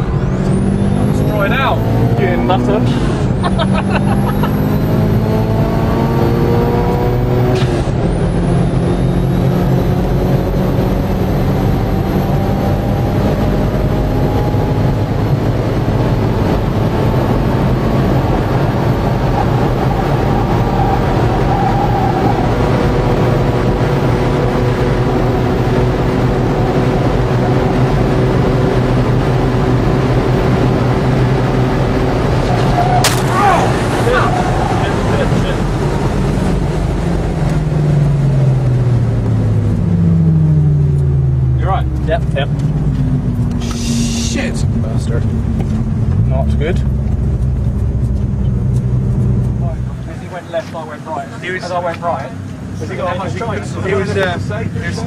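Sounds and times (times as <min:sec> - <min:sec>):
car engine at full throttle: 0:00.0 - 0:55.0
wind and road roar: 0:00.0 - 0:55.0.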